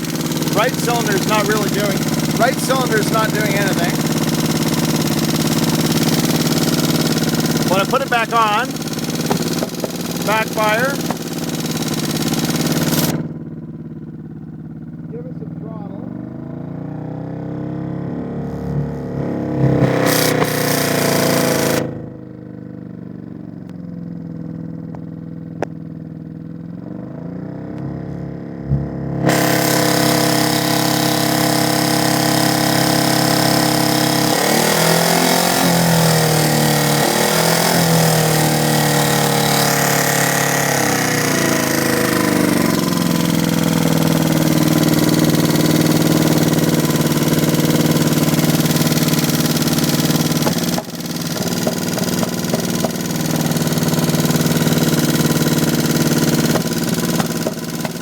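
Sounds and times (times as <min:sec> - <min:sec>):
engine running unevenly: 0:00.0 - 0:58.0.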